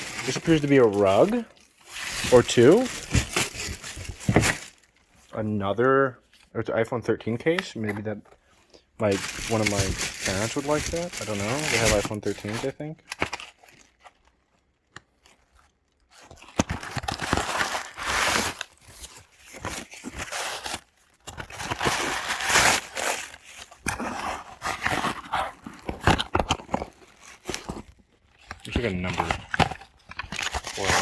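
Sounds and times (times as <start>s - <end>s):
plastic packaging crinkling: 0.0s - 5.3s, 9.0s - 31.0s.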